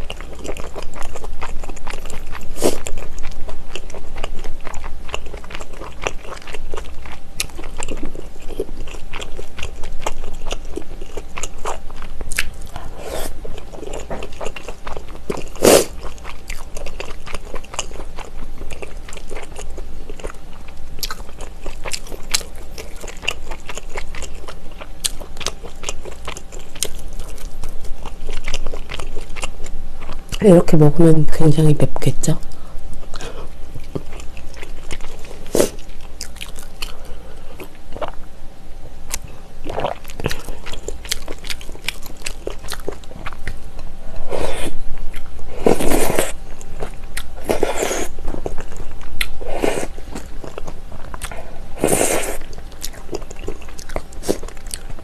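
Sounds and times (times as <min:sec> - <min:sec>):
chewing and biting food: 0:00.0 - 0:30.4, 0:33.0 - 0:38.2, 0:39.1 - 0:55.0.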